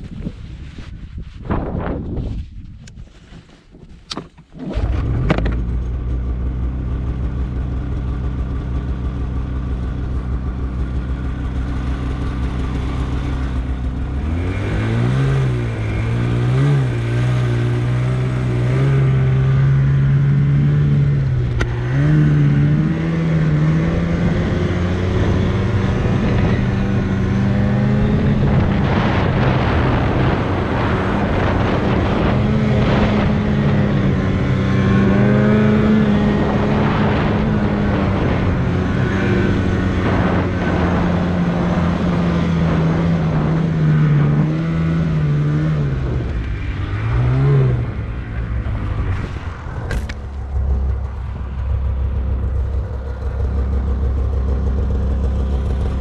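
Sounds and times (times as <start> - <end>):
snowmobile engine: 3.0 - 56.0.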